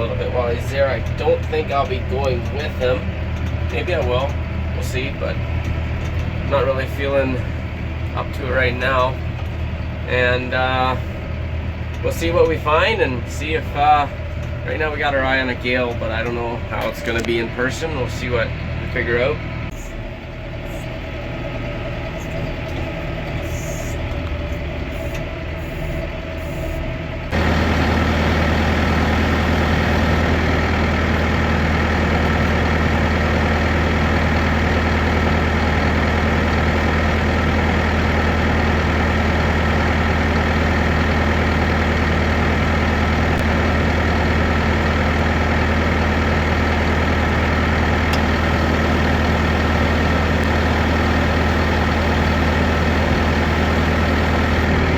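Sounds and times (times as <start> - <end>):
engine droning: 0.0 - 54.9.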